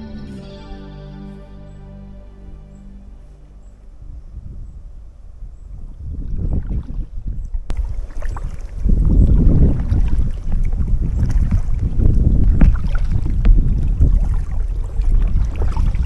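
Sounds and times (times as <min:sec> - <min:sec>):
wind buffeting microphone: 0:02.6 - 0:16.0
water splashes: 0:02.8 - 0:16.0.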